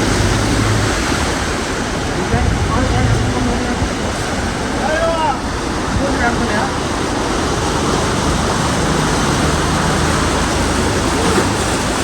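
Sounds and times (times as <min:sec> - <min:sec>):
heavy rain rushing: 0:00.0 - 0:12.0
road traffic hum: 0:00.0 - 0:12.0.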